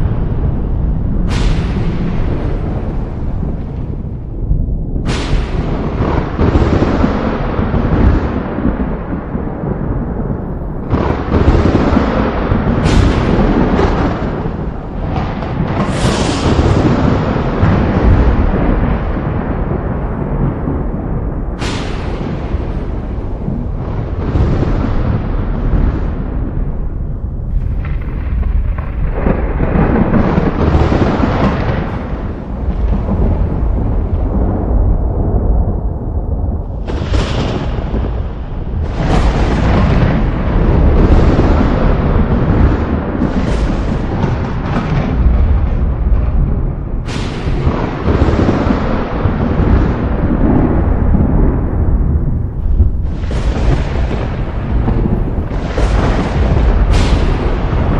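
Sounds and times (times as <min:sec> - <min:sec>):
thunder clap and rumble: 0:00.0 - 0:57.9.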